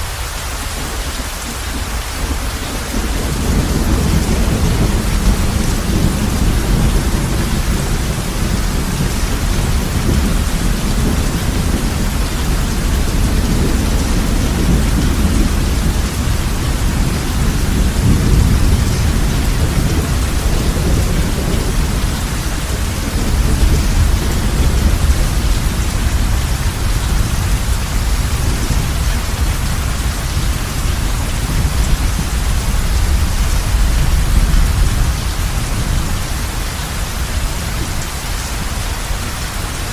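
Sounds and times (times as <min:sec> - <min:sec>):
heavy rain on a roof: 0:00.0 - 0:39.9
low rumble of thunder: 0:00.1 - 0:39.9.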